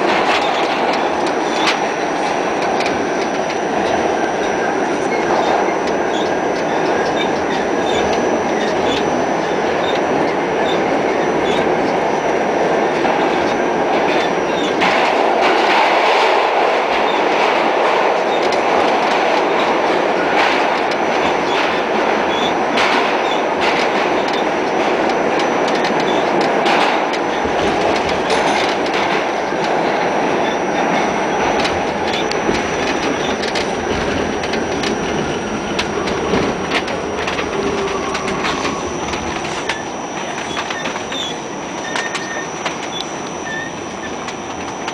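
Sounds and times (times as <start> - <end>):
wheels clicking over rail joints: 0.0 - 9.2, 13.0 - 44.9
subway train wheel and rail noise: 0.0 - 44.9.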